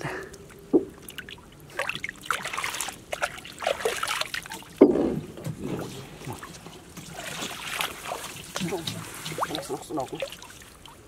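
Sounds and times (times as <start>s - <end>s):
shallow water splashing: 0.4s - 11.0s.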